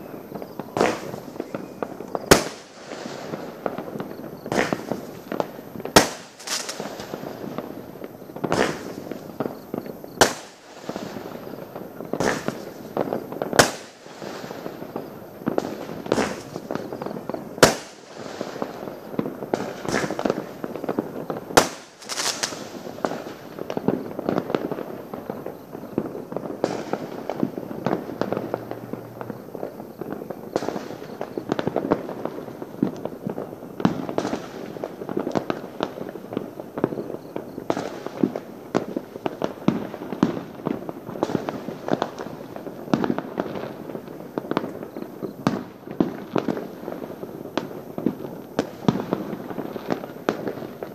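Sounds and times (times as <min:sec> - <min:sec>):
firecrackers popping and crackling: 0:00.0 - 0:50.9
firework bangs: 0:00.0 - 0:50.9.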